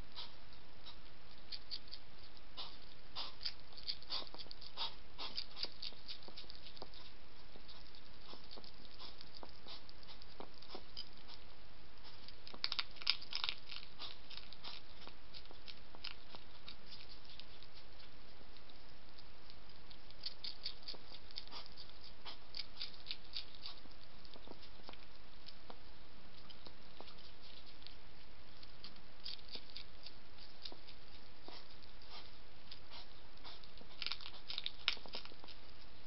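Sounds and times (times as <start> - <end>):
hedgehog crunching food: 0.0 - 36.0.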